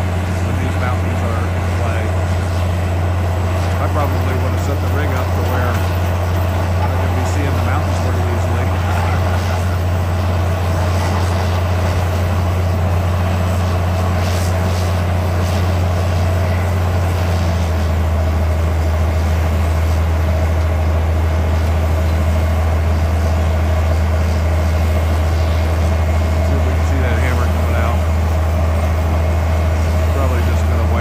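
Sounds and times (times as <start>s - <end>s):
drill rig heavy low drone: 0.0s - 31.0s.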